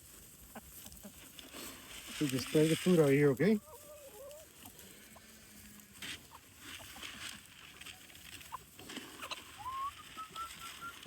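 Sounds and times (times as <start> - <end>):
chickens clucking and peeping: 0.0 - 11.0
chickens pecking feed: 0.0 - 11.0.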